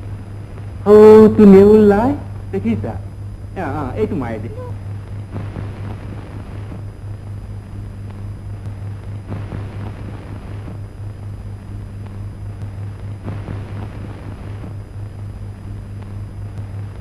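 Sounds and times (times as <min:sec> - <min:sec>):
film soundtrack hum and hiss: 0:00.0 - 0:17.0.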